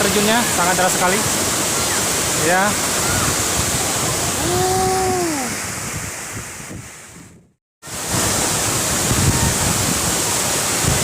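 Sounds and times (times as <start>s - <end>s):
waterfall roaring: 0.0s - 5.8s, 7.9s - 11.0s.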